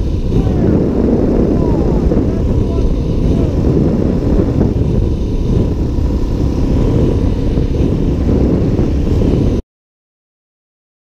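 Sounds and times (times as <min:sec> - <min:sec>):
motorcycle engine running: 0:00.0 - 0:09.6
wind rush on microphone: 0:00.0 - 0:09.6.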